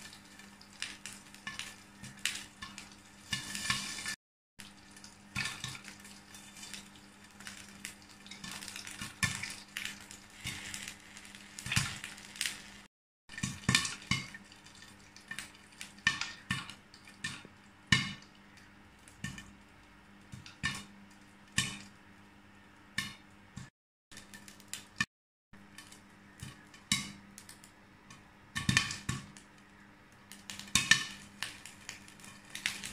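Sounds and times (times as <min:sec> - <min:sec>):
popcorn popping: 0:00.0 - 0:22.1, 0:22.8 - 0:32.9
steady sizzle: 0:00.0 - 0:32.9.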